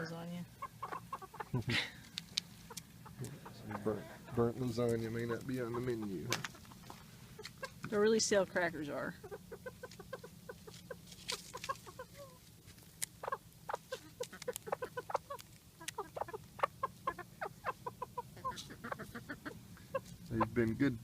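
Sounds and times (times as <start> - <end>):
chickens clucking: 0.0 - 21.0
steady low hum: 0.0 - 21.0.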